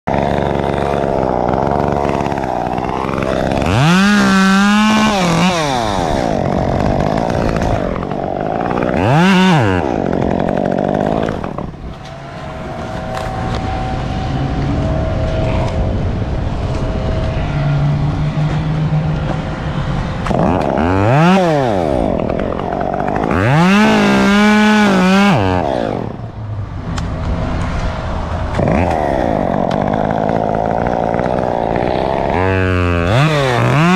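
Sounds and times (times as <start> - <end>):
chainsaw idling and revving: 0.1 - 26.4, 27.0 - 33.9.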